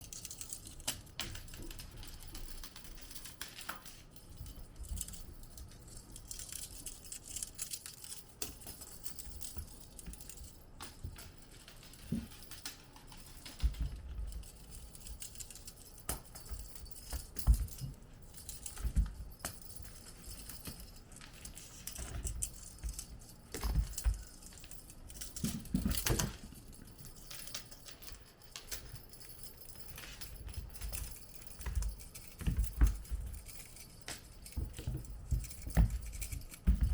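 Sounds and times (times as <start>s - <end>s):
small paws pattering and scrabbling: 0.0s - 36.9s
toy jangling rattles: 0.0s - 36.9s.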